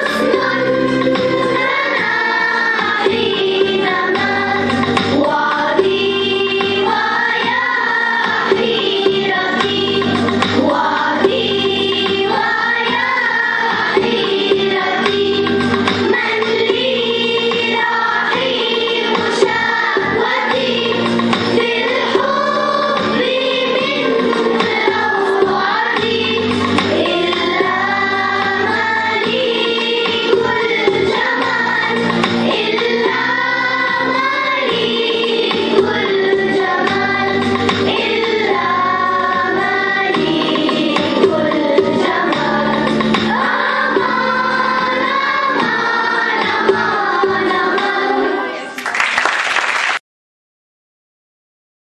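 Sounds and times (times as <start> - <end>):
children's choir singing: 0.0 - 49.0
instrumental accompaniment: 0.0 - 49.0.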